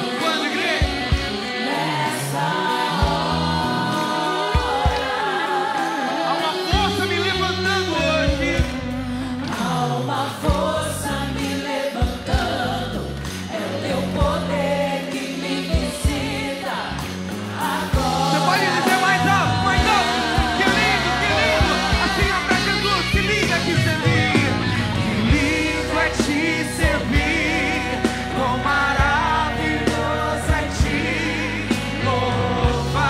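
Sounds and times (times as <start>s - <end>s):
band with bass and drums: 0.0s - 1.8s, 6.5s - 33.0s
congregation singing: 0.0s - 33.0s.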